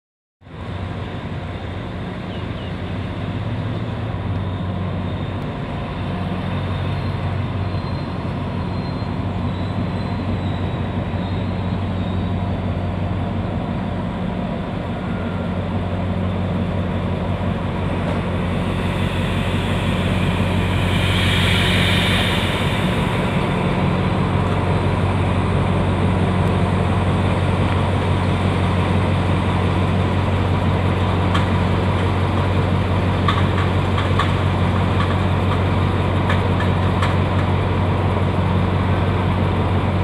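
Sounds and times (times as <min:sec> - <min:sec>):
locomotive engine hum: 0:00.4 - 0:40.0.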